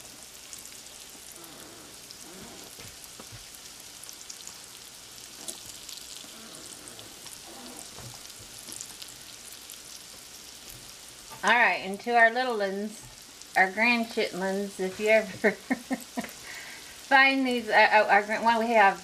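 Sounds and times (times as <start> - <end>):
mushrooms frying in hot oil: 0.0 - 19.0.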